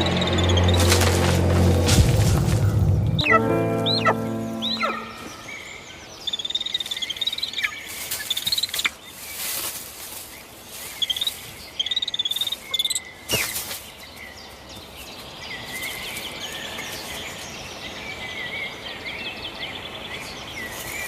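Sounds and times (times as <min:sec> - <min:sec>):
small birds chirping: 0:02.3 - 0:21.0.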